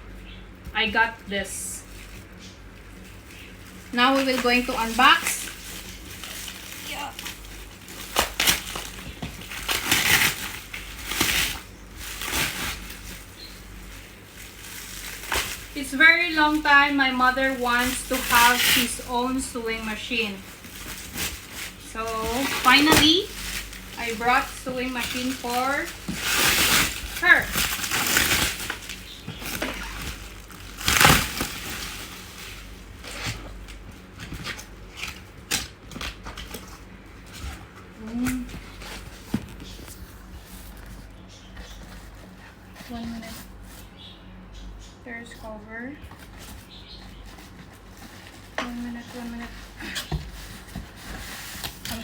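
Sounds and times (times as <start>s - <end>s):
packaging crinkling and tearing: 1.8s - 44.0s, 46.1s - 52.0s.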